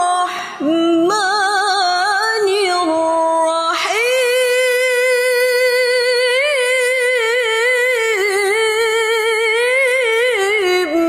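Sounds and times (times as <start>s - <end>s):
woman reciting melodically: 0.0s - 11.0s.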